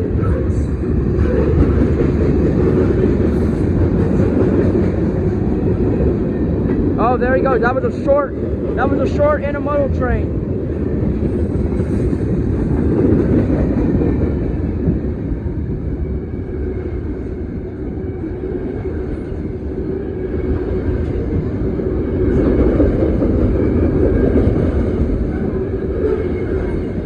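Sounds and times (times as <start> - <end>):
steel wheels rumbling on rails: 0.0 - 27.0.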